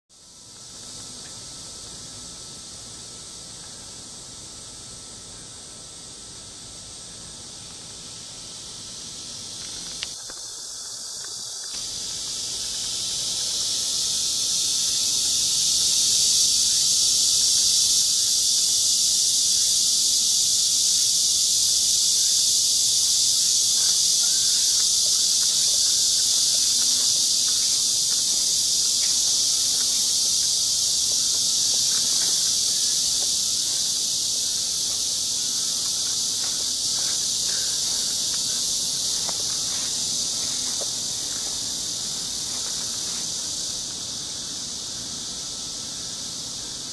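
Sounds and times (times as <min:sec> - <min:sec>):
cicadas buzzing: 0:00.1 - 0:46.9.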